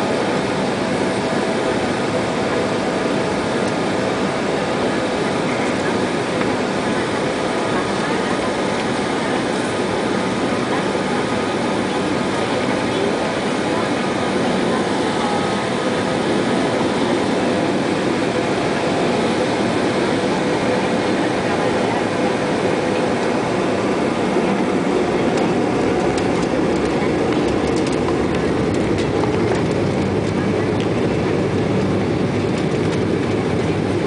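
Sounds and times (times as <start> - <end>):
jet engines at takeoff thrust: 0.0 - 34.0
wheels rumbling on runway: 0.0 - 34.0.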